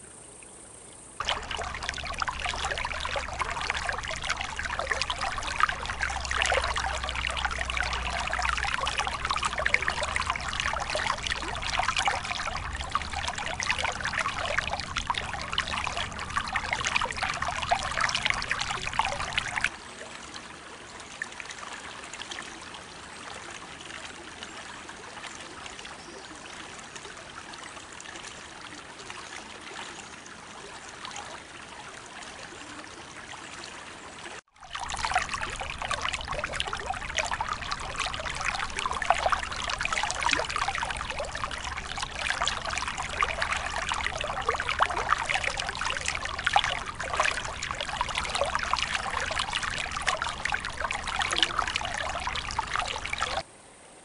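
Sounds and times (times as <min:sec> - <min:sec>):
creek water babbling: 0:00.0 - 0:53.6.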